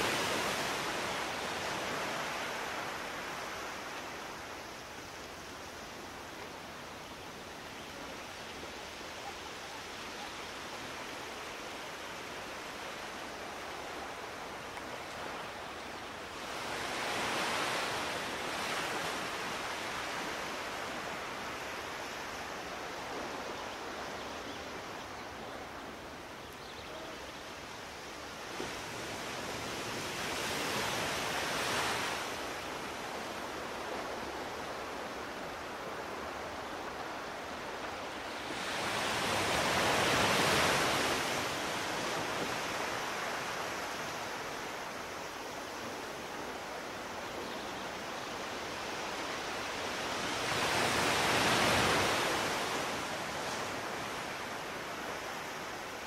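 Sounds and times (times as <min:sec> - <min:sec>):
distant ocean surf: 0:00.0 - 0:56.0.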